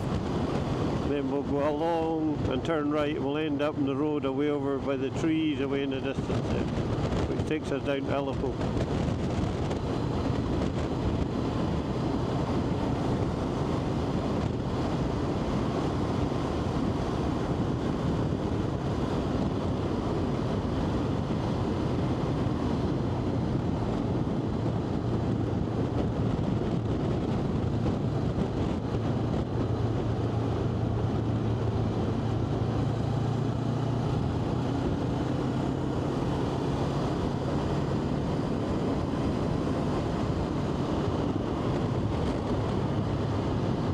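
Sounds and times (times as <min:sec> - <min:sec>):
wind rush over microphone: 0:00.0 - 0:43.9.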